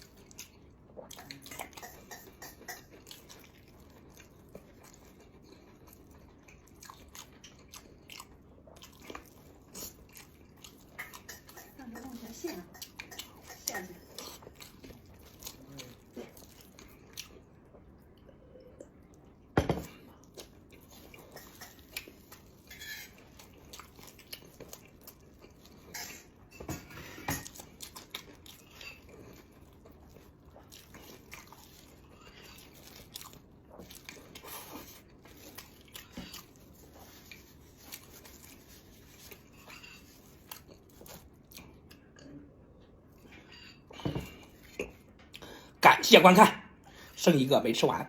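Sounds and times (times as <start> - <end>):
chewing and biting food: 0.0 - 18.0, 20.0 - 26.4, 27.0 - 42.2.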